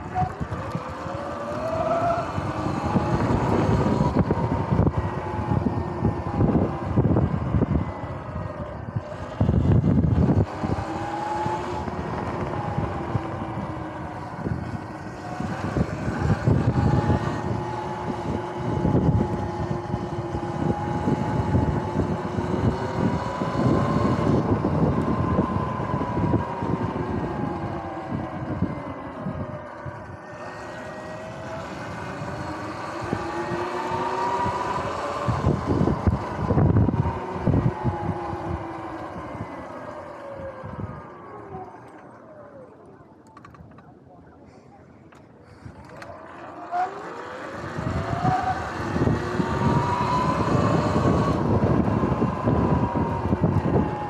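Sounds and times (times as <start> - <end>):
wind buffeting on microphone: 0.0 - 41.7, 45.3 - 54.0
electric motorbike motor whining: 0.0 - 43.8, 45.0 - 54.0.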